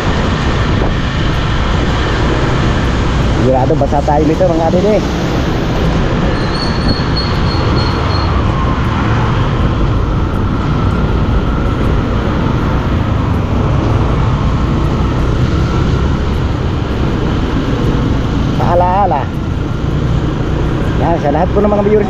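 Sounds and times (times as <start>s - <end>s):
wind on microphone: 0.0s - 18.7s
tyres on wet road: 0.0s - 22.0s.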